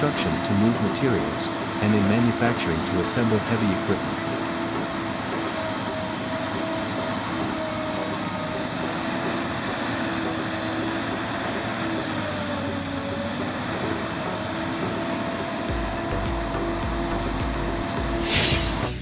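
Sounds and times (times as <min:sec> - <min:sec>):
crane diesel engine running: 0:00.0 - 0:19.0.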